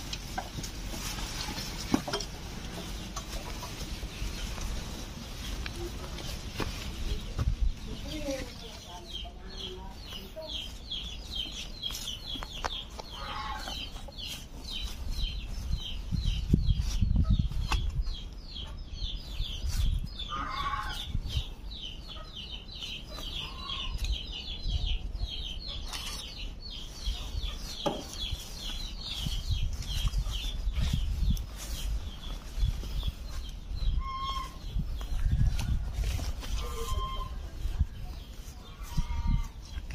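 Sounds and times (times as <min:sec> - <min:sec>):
chickens clucking: 0:00.0 - 0:39.9
chicks chirping: 0:00.0 - 0:39.9.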